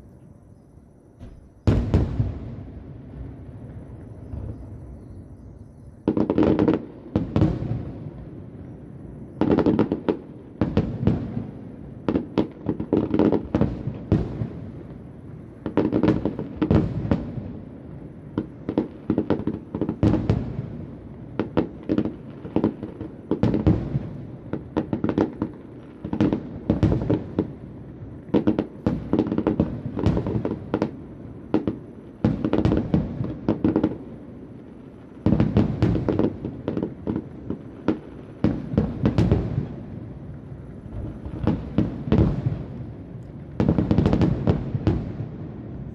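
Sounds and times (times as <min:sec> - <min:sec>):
fireworks bangs and crackling: 0:01.2 - 0:45.9.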